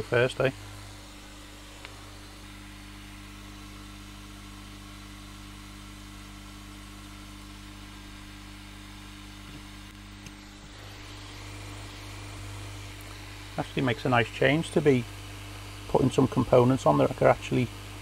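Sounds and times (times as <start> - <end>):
equipment humming: 0.0 - 18.0.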